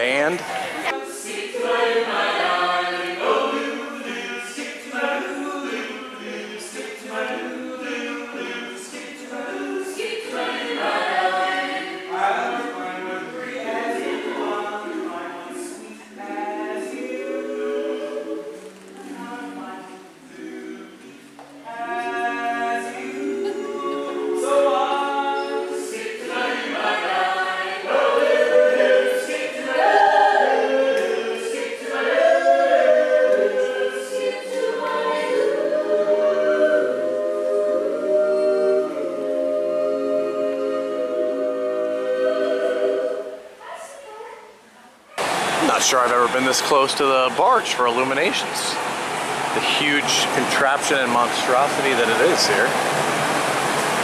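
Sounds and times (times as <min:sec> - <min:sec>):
choir singing: 0:00.0 - 0:43.8, 0:45.2 - 0:54.0.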